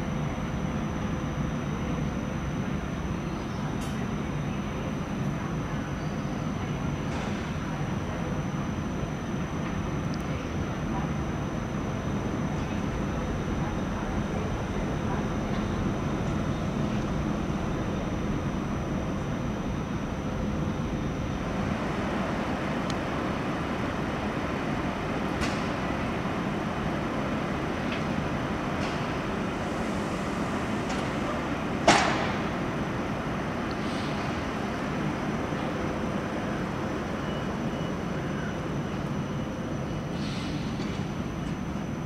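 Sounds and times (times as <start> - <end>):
train noise: 0.0 - 42.0.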